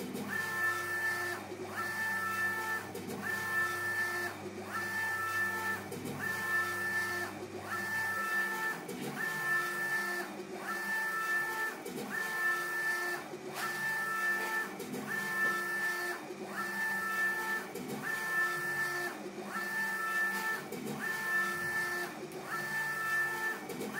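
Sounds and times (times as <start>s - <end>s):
printer carriage motor whine: 0.0s - 23.9s.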